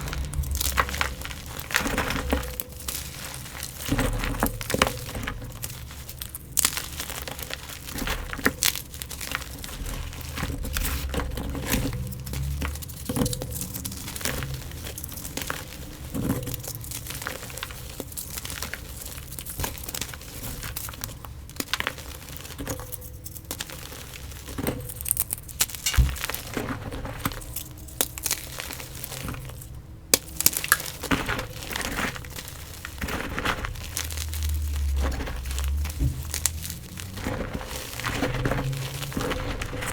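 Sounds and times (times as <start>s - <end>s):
chalk blocks crunching and crackling: 0.0s - 39.9s.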